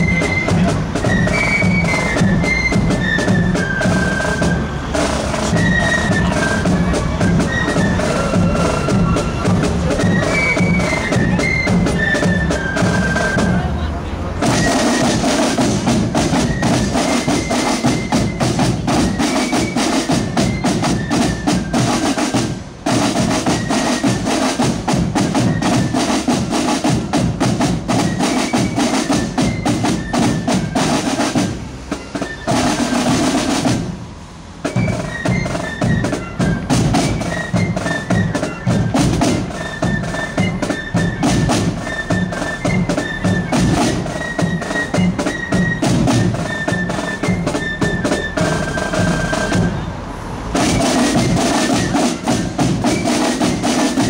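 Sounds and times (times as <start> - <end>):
snare drums: 0.0 - 49.9, 50.5 - 54.0
high flute melody: 0.0 - 54.0.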